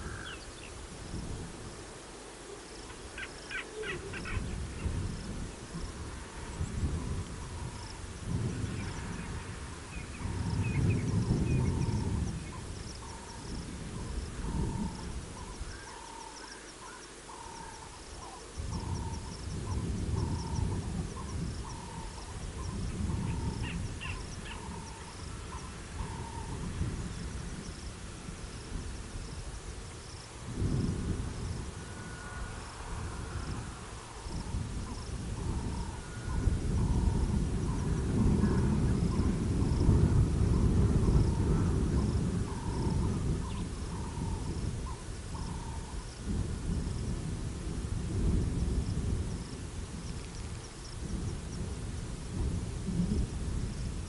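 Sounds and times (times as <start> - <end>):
high insect chirp: 0.0 - 54.0
wind rumbling on microphone: 0.0 - 54.0.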